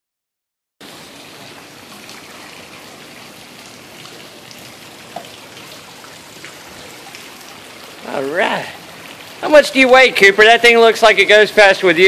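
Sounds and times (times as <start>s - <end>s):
water splashing from boat propeller: 0.8s - 12.0s.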